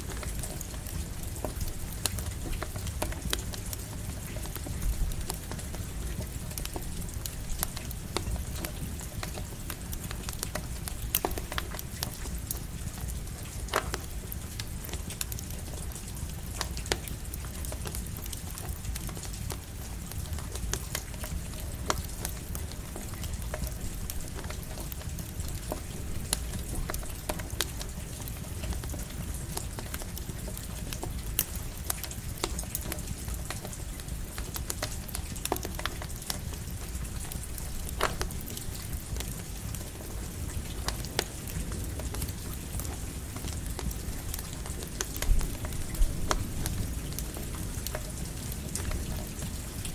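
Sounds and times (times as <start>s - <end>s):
campfire crackling and popping: 0.0s - 49.9s
light rain falling: 0.0s - 49.9s.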